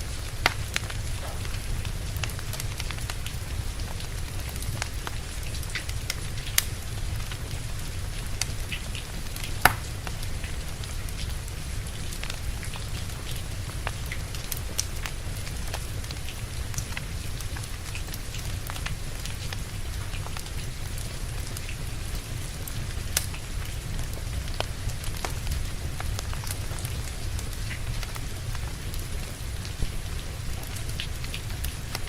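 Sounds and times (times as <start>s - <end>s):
steady rain: 0.0s - 32.0s
wood fire crackling: 0.0s - 32.0s.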